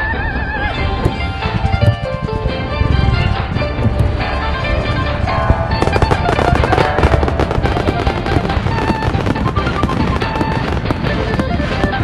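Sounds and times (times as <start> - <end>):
background music: 0.0 - 12.0
firework bangs and crackles: 1.0 - 12.0.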